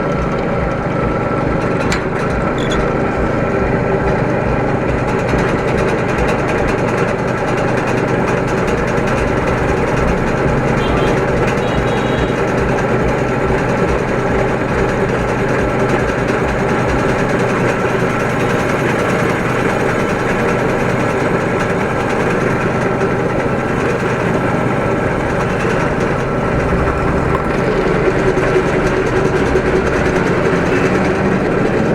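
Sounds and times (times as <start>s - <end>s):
machinery humming: 0.0s - 31.9s.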